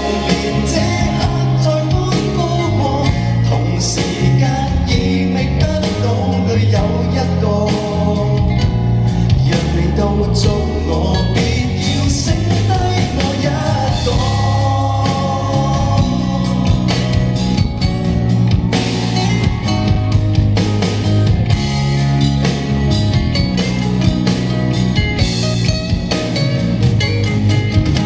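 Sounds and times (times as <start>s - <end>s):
rock song instrumental with guitar: 0.0s - 28.0s.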